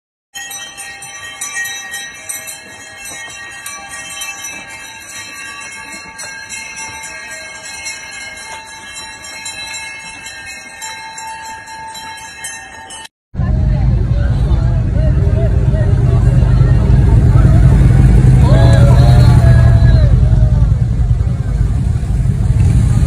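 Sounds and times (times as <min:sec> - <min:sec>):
sleigh bells jingling: 0:00.4 - 0:13.1, 0:15.4 - 0:23.0.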